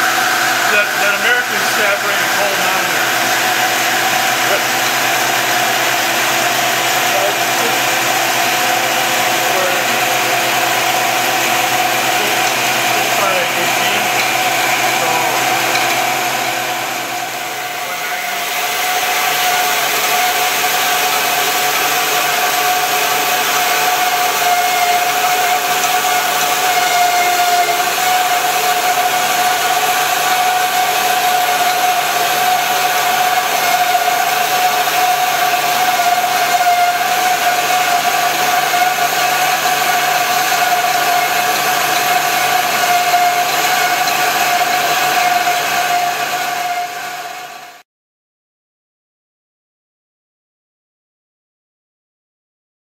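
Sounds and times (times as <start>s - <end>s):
band saw cutting steel: 0.0s - 47.8s.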